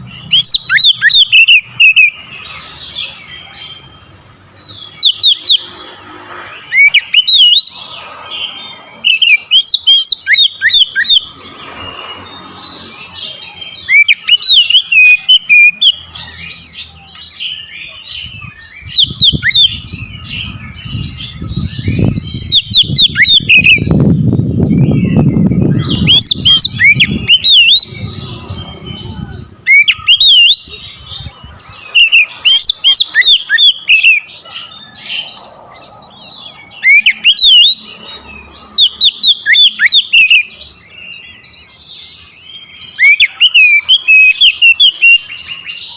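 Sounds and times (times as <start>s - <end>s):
bird singing whistled phrases: 0.1s - 2.2s, 4.6s - 5.8s, 6.7s - 7.8s, 9.0s - 12.3s, 13.1s - 23.9s, 24.6s - 35.2s, 36.5s - 37.9s, 38.7s - 45.9s.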